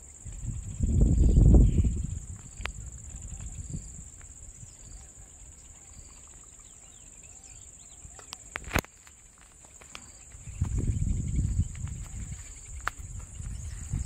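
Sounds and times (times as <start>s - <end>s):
faint bird chirps: 0.0s - 14.0s
insects buzzing: 0.0s - 14.0s.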